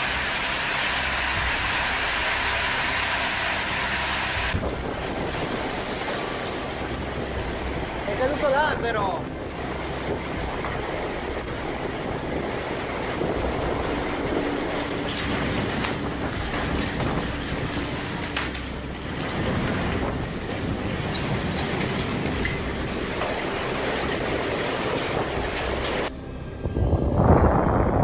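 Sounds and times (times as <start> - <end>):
torrential rain: 0.0 - 26.1
storm wind: 0.0 - 28.0.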